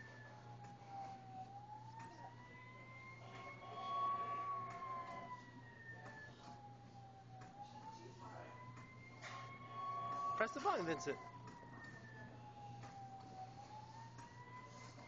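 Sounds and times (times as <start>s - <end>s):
toy siren wailing: 1.6s - 6.7s, 7.8s - 14.9s.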